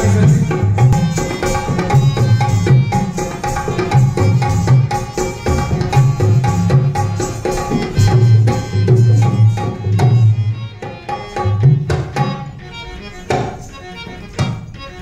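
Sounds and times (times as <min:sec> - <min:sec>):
hand drum beating: 0:00.0 - 0:12.6
held melody: 0:00.0 - 0:15.0.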